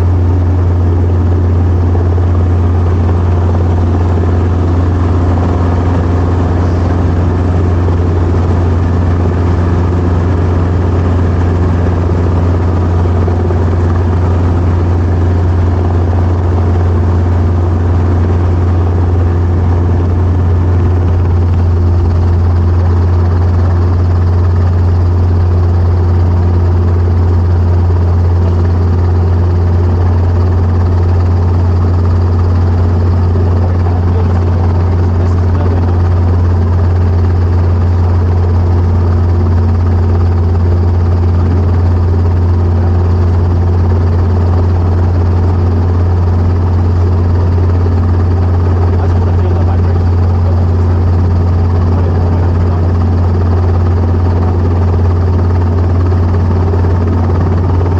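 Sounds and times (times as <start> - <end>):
helicopter engine and rotors: 0.0 - 57.9.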